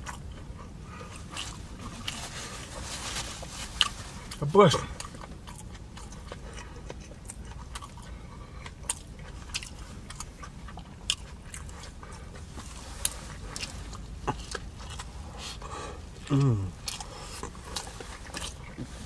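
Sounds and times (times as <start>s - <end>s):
chewing food: 0.0s - 2.8s, 3.4s - 19.0s.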